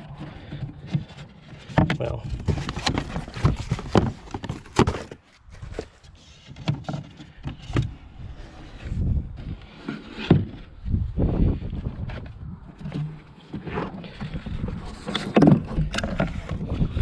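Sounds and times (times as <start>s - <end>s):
cardboard rustling and scraping: 0.0s - 17.0s.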